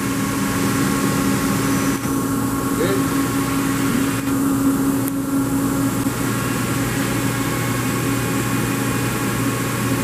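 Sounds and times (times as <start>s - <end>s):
lathe humming idle: 0.0s - 10.0s.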